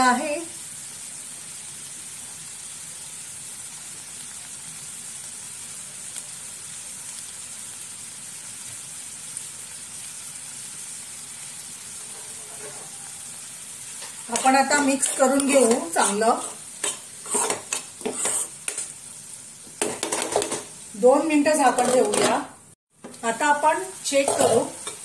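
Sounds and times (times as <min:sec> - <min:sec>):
prawns and onions sizzling: 0:00.0 - 0:25.0.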